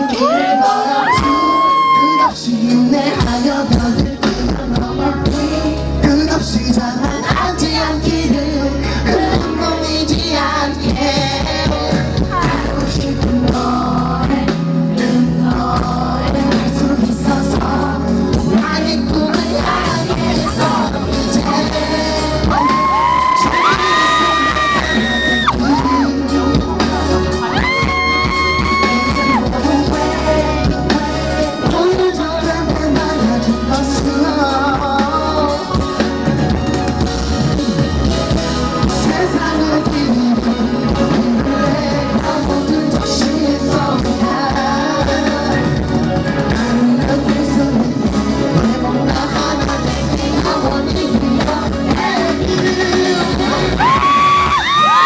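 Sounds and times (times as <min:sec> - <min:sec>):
man singing into microphone: 0:00.0 - 0:36.6, 0:37.2 - 0:55.0
pop backing track with bass beat: 0:00.0 - 0:55.0.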